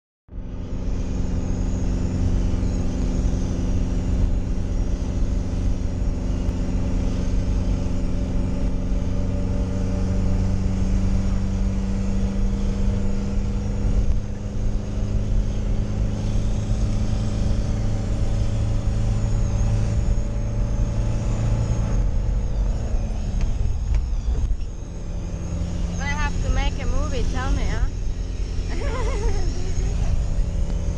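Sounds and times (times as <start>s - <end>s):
engine running hard: 0.3s - 30.9s
road noise: 0.3s - 30.9s.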